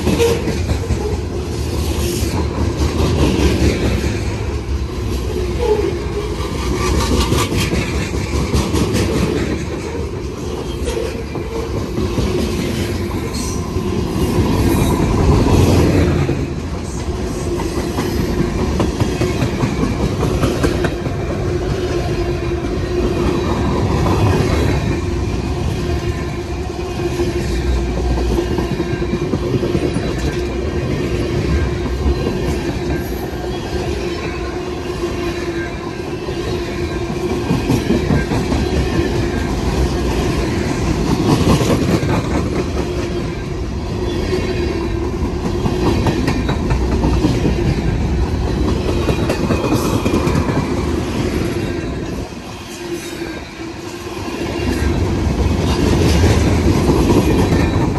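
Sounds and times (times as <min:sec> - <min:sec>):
railway cars rumbling: 0:00.0 - 0:57.9.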